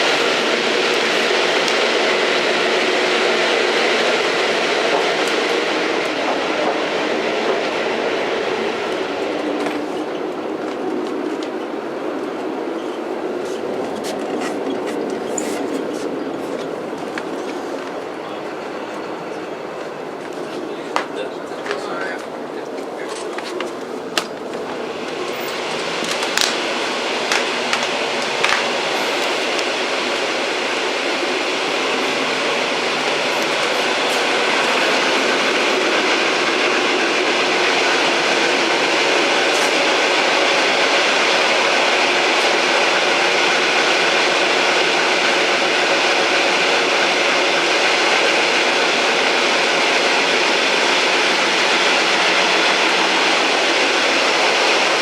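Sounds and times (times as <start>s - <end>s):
old train rumbling: 0.0s - 55.0s.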